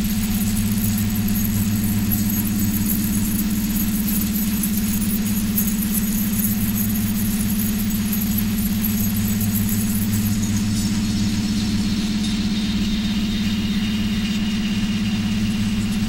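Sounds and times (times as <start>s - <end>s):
low synthesizer drone with flutter: 0.0s - 16.0s.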